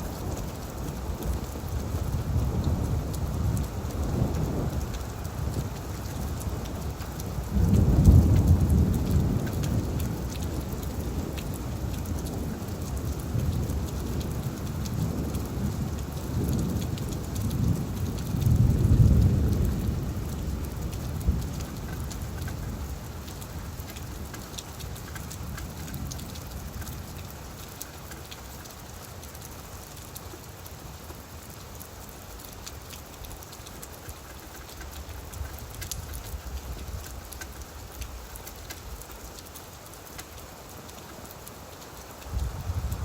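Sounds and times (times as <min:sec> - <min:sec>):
rain falling on leaves: 0:00.0 - 0:43.0.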